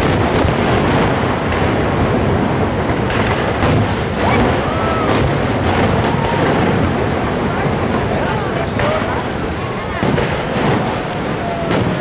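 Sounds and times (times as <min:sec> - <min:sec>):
continuous rumble: 0:00.0 - 0:12.0
fireworks bursting: 0:00.0 - 0:12.0.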